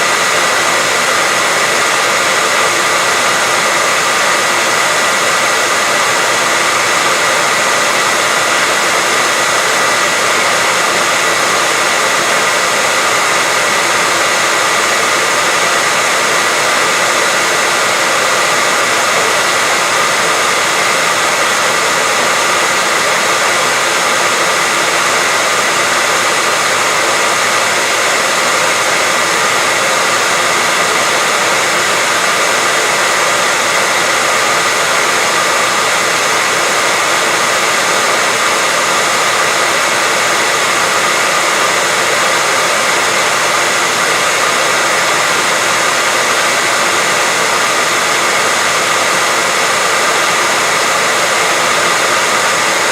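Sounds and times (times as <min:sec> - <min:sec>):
white noise hiss: 0:00.0 - 0:52.9.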